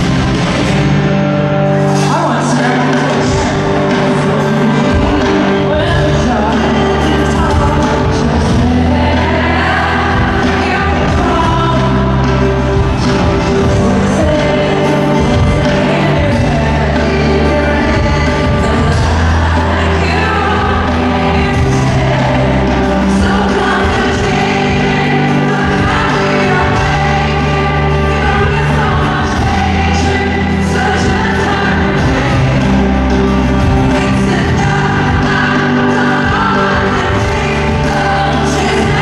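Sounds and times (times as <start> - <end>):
live band music: 0.0 - 39.0
woman singing into microphone: 2.0 - 39.0.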